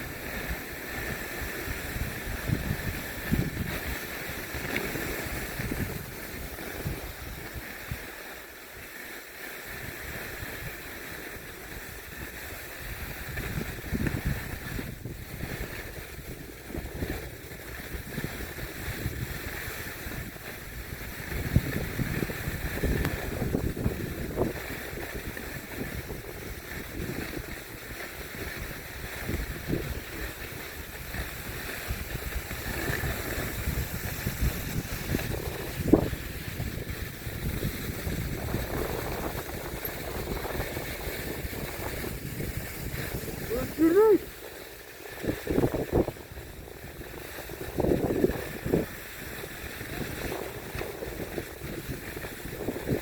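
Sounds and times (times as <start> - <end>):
wind buffeting microphone: 0.0 - 7.9, 11.4 - 53.0
board sliding on snow: 0.0 - 53.0.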